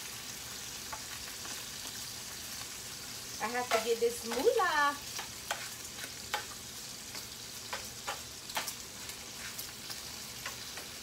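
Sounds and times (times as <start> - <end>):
bacon sizzling in a pot: 0.0 - 11.0.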